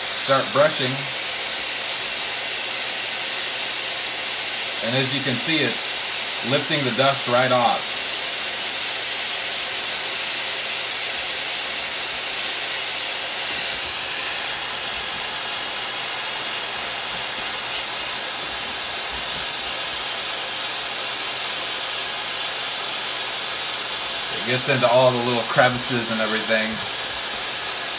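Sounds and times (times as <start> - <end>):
vacuum cleaner hissing: 0.0 - 27.9.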